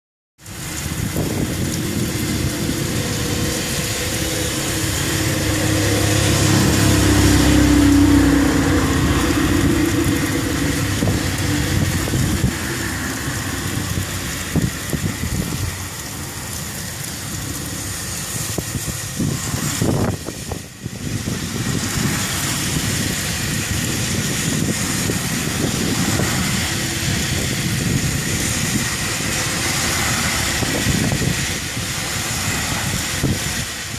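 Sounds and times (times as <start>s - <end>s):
heavy rain falling: 0.4s - 33.9s
low rumble: 0.6s - 33.8s.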